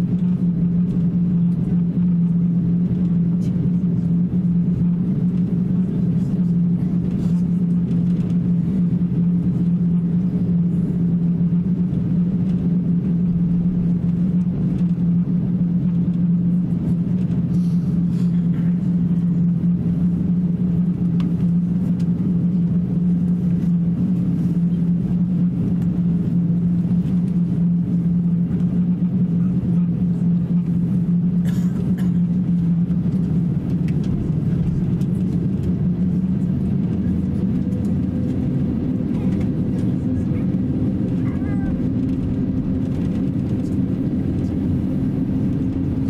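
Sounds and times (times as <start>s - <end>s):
aircraft cabin drone: 0.0s - 46.0s.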